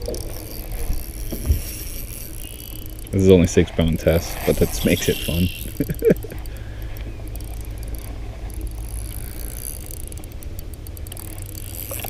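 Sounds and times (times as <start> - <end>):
fishing reel ticking: 0.0 - 12.0
steady low rumble: 0.0 - 12.0.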